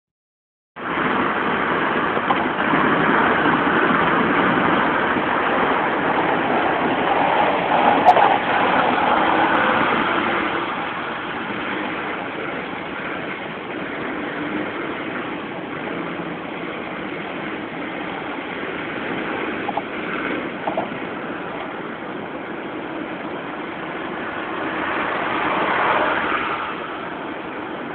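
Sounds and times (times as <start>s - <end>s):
car road noise on freeway: 0.8s - 27.9s.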